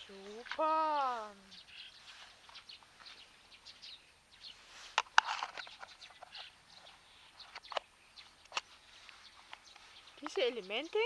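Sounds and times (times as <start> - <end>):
faint bird calls: 0.0 - 11.0.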